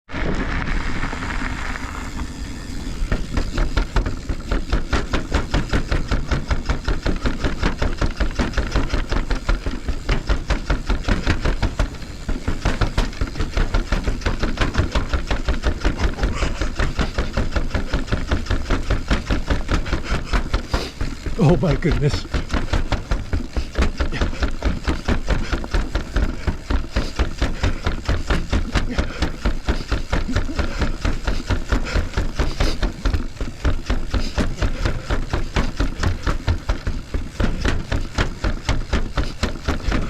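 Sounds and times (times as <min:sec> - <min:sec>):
bike rolling: 0:00.1 - 0:40.0
bike tyres knocking on stairs: 0:03.0 - 0:21.4, 0:22.0 - 0:40.0.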